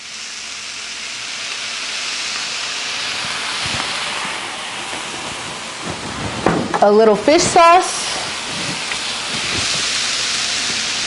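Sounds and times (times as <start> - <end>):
sauce sizzling on griddle: 0.0 - 11.0.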